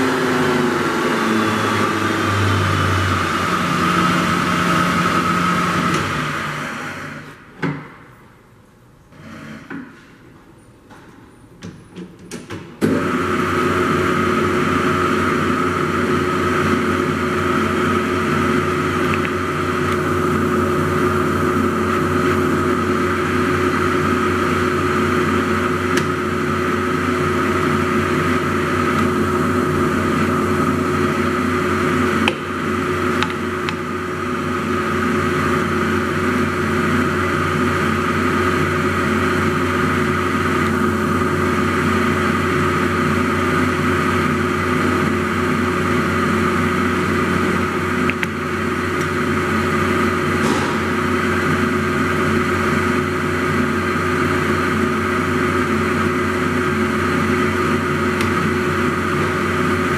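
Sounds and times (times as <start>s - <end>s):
lathe running with whine: 0.0s - 7.4s, 12.9s - 59.9s.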